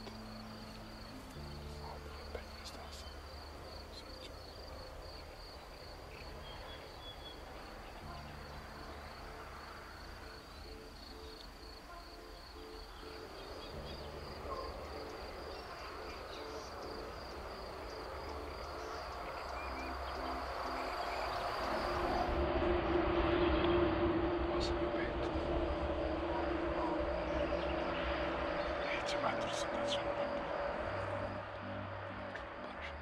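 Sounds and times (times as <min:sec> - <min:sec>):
crickets trilling: 0:00.0 - 0:22.5, 0:24.6 - 0:33.0.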